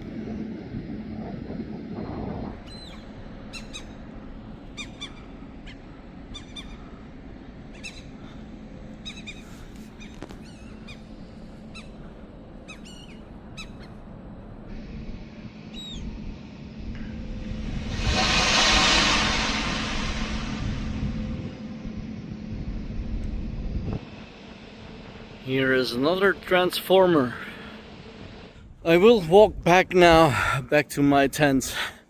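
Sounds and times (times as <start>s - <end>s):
machinery humming: 0.0s - 29.3s.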